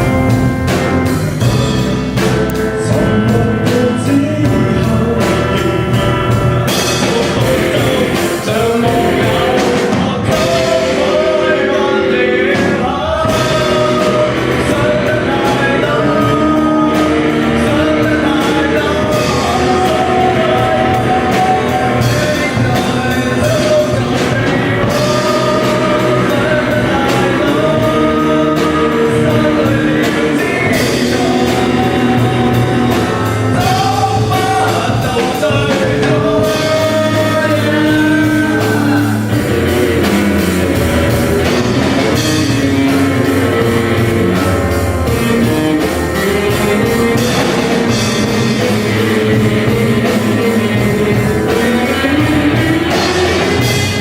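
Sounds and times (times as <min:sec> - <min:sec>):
lead singer singing: 0:00.0 - 0:54.0
rock band playing: 0:00.0 - 0:54.0.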